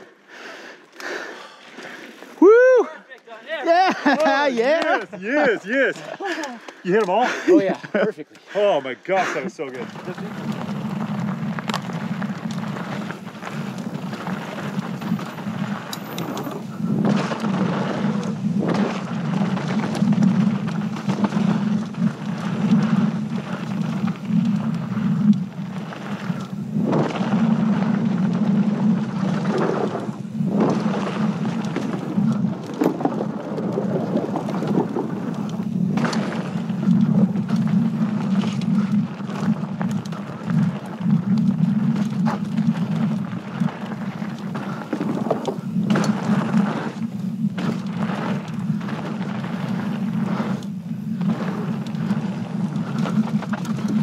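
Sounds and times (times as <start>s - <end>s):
tyres crunching on gravel: 3.8s - 54.0s
bike clattering over bumps: 9.7s - 54.0s
wind rumble on microphone: 9.8s - 54.0s.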